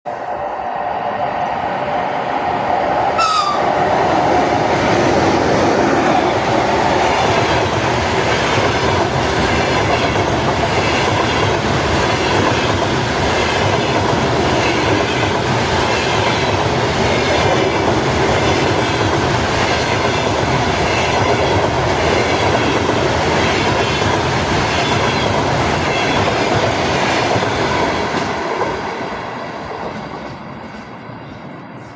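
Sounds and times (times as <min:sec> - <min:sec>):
rush of train wheels: 0:00.1 - 0:31.9.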